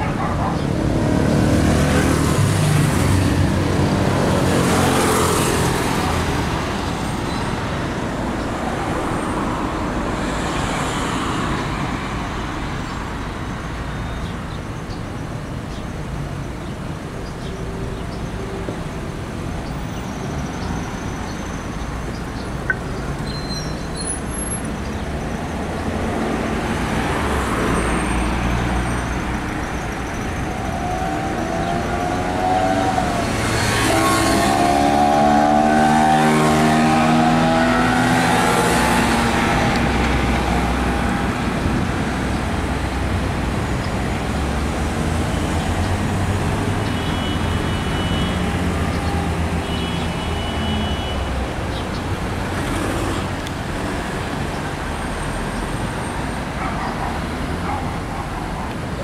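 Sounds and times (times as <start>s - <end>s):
road rumble: 0.0s - 59.0s
vehicles passing: 0.0s - 59.0s.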